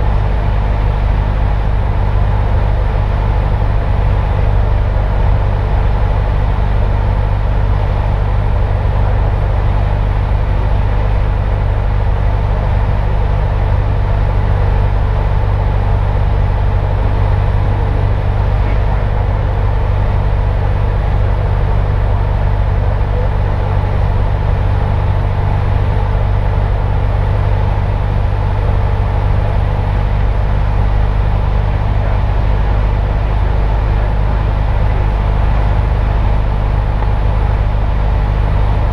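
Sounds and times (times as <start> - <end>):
light aircraft engine drone in cabin: 0.0 - 38.9.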